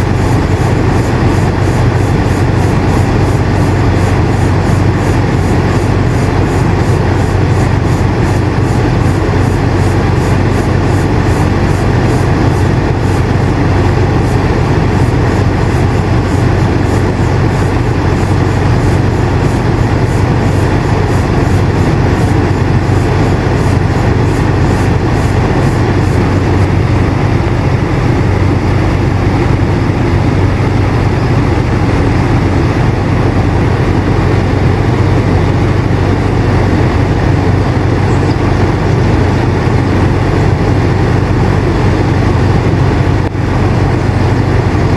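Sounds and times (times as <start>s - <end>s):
air conditioner running: 0.0s - 44.9s.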